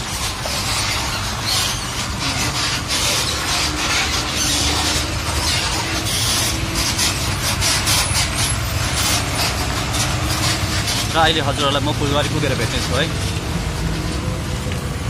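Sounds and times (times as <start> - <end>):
rough rushing rattle: 0.0 - 14.4
vehicle rumbling on road: 0.0 - 15.0.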